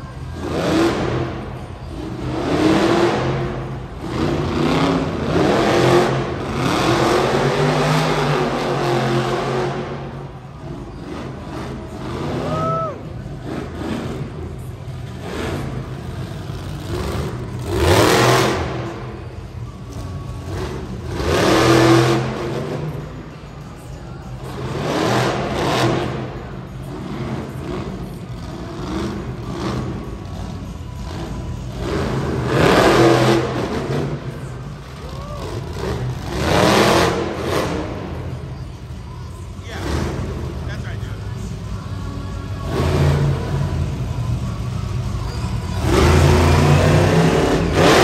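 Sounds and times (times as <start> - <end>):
truck engine revving: 0.0 - 48.0.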